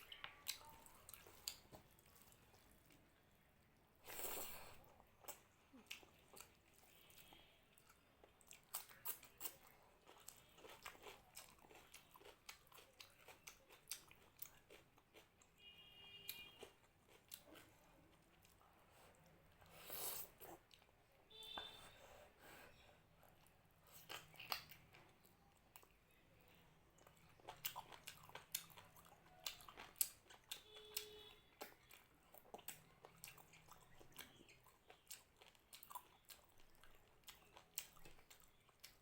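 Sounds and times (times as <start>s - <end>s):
chewing with wet mouth clicks: 0.0s - 3.1s, 4.1s - 15.5s, 16.2s - 20.9s, 23.3s - 26.1s, 26.9s - 39.0s.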